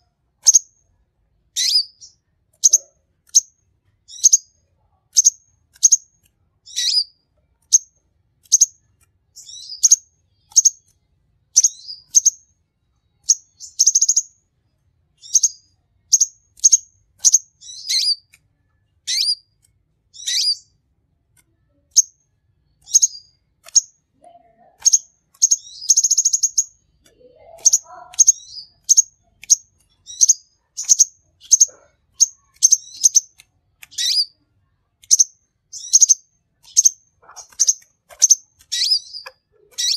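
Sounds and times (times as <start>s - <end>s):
bird high chirps: 0.0s - 0.8s, 1.6s - 12.5s, 13.2s - 14.4s, 15.2s - 18.3s, 19.0s - 20.8s, 21.6s - 34.4s, 35.0s - 39.9s.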